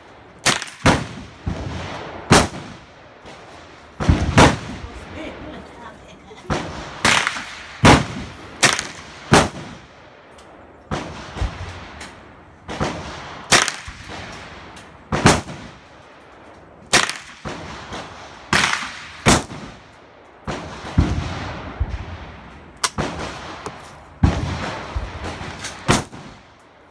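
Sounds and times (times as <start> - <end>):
gunshots with ringing echo: 0.4 - 5.7, 6.5 - 9.9, 10.9 - 15.8, 16.9 - 26.6.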